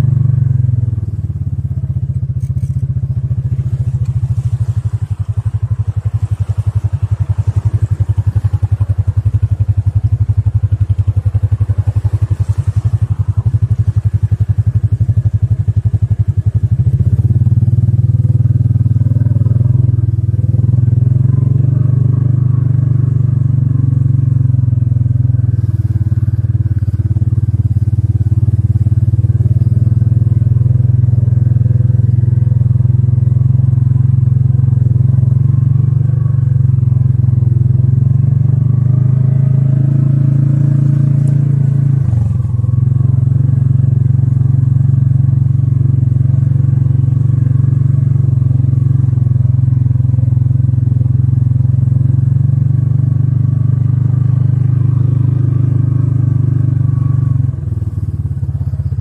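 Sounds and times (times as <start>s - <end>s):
engine running with low throbbing: 0.0s - 59.0s.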